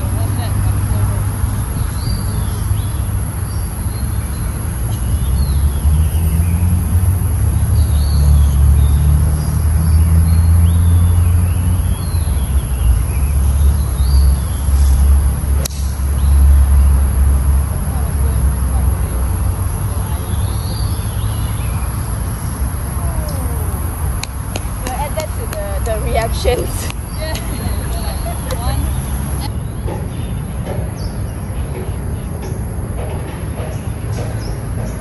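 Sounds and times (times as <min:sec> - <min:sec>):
birds chirping: 0:00.0 - 0:35.0
road traffic rumble: 0:00.0 - 0:35.0.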